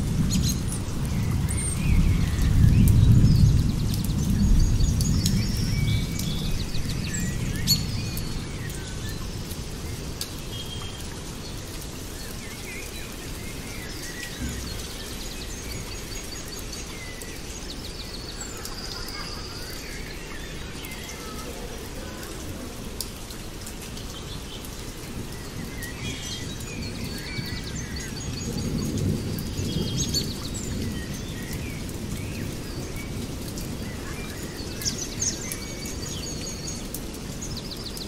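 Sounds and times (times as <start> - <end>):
rain hissing: 0.0 - 38.0
small birds chirping and trilling: 0.0 - 38.0.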